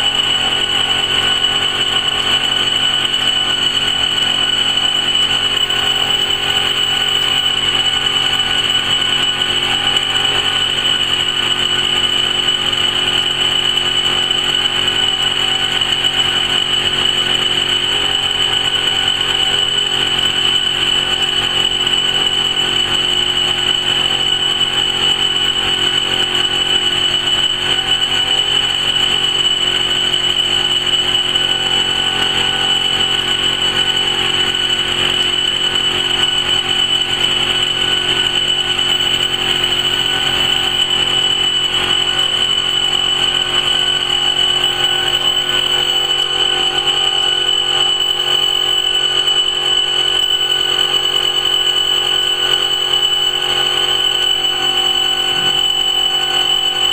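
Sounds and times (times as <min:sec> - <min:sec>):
laser cutting machine whine: 0:00.0 - 0:56.9.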